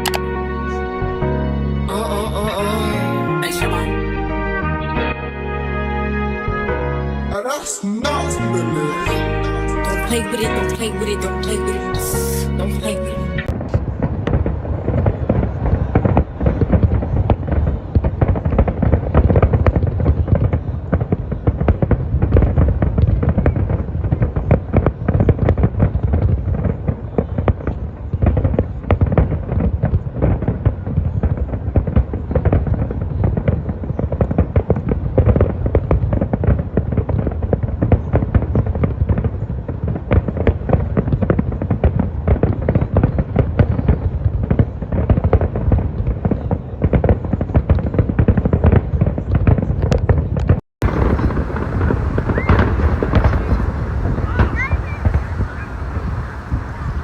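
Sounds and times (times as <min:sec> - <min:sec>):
fireworks popping and banging: 0:00.0 - 0:00.3, 0:09.9 - 0:57.0.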